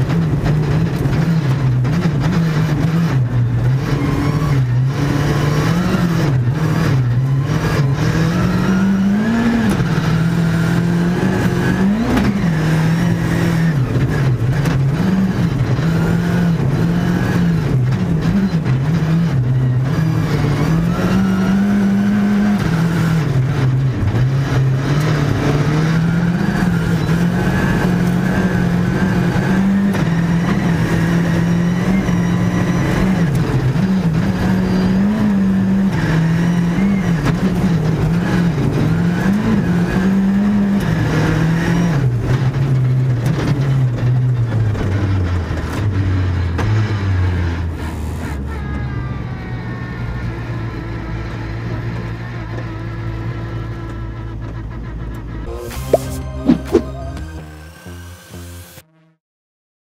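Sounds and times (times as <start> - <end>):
rally car engine revving: 0.0 - 59.2.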